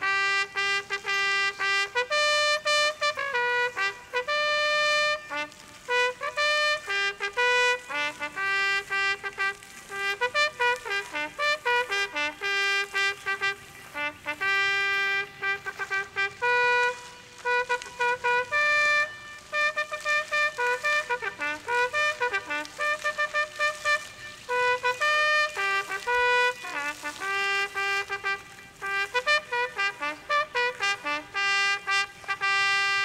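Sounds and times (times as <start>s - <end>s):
solo trumpet melody: 0.0s - 33.0s.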